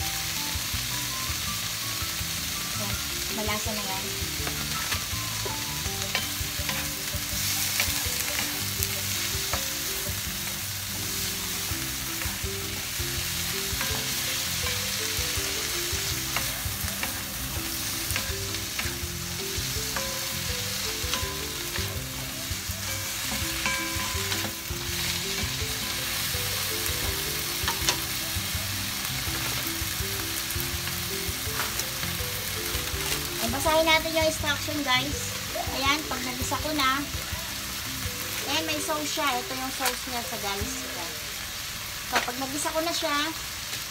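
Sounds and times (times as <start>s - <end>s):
vegetables sizzling in a wok: 0.0s - 43.9s.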